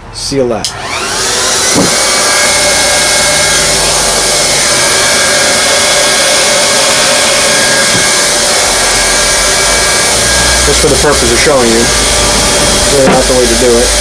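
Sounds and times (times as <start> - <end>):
heat gun blowing with fan whine: 0.6 - 14.0.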